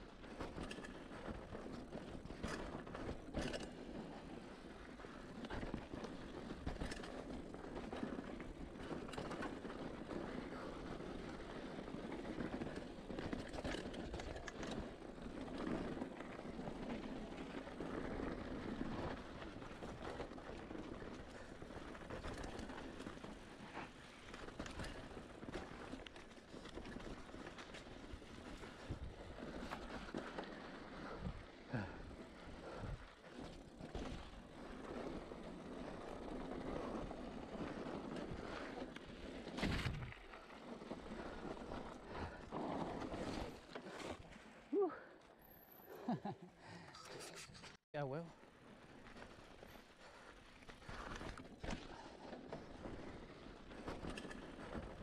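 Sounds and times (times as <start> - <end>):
bike tyres rumbling on dirt: 0.0 - 45.1, 48.2 - 55.0.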